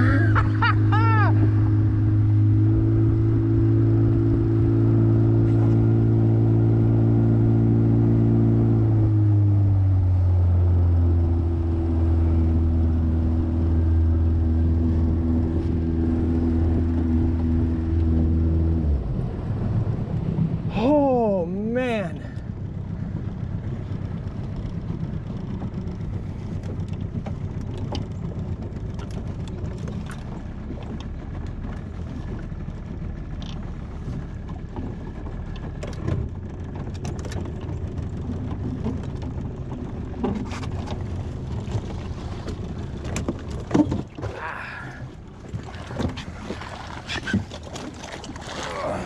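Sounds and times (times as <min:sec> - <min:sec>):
outboard motor running: 0:00.0 - 0:49.0.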